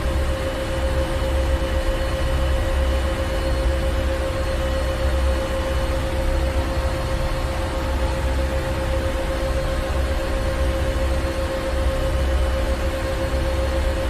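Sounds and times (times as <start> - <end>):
engine room machinery drone: 0.0 - 14.0.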